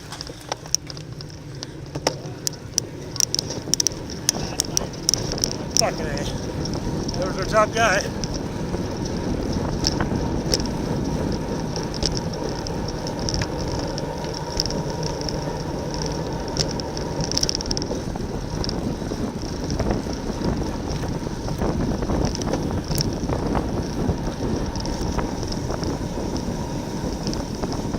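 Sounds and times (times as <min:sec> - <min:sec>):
high whir of bikes: 0:00.0 - 0:27.9
wind rushing over microphone: 0:00.0 - 0:27.9.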